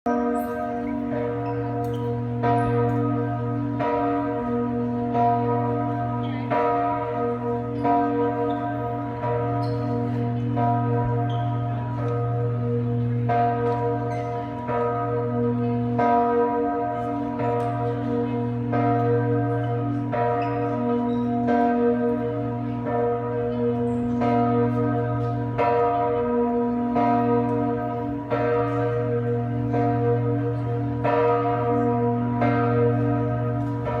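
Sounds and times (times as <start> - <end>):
church bells ringing: 0.1 - 34.0.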